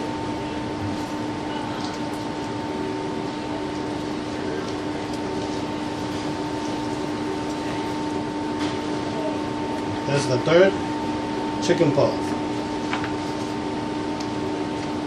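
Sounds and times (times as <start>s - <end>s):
steady two-tone machine hum: 0.0s - 15.0s.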